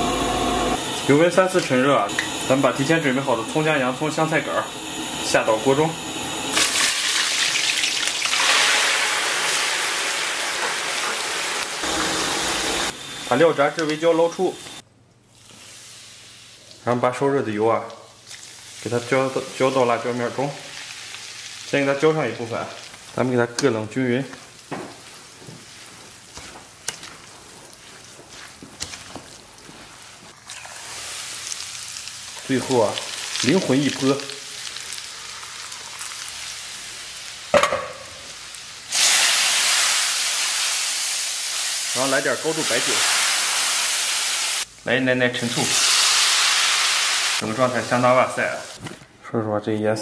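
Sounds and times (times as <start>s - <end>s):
vegetables sizzling in hot oil: 0.8s - 14.8s, 15.4s - 16.8s, 17.9s - 44.7s, 45.4s - 48.8s.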